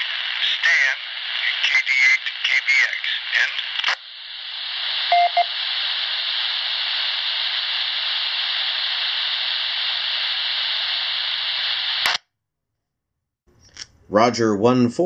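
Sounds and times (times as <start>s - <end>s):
radio static hiss: 0.0s - 12.2s.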